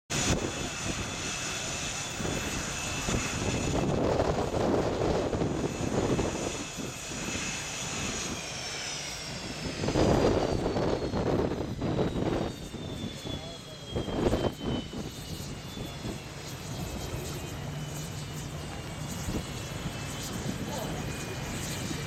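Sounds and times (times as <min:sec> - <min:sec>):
jet engine whine: 0:00.1 - 0:22.0.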